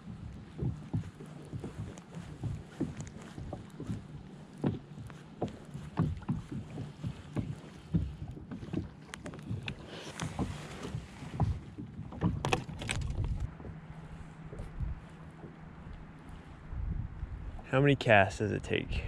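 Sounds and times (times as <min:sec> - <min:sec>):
waves slapping plastic kayak hull: 0:00.0 - 0:17.8.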